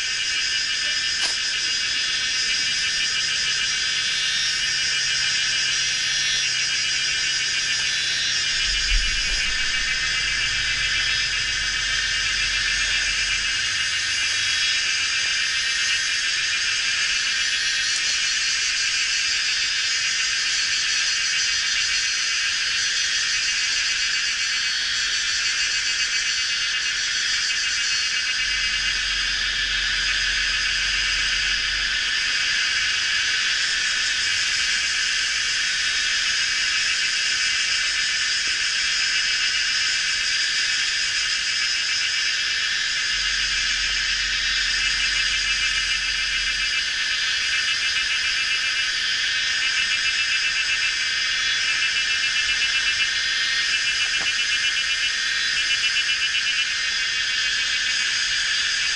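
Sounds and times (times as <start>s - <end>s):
cicadas and insects buzzing: 0.0s - 58.9s.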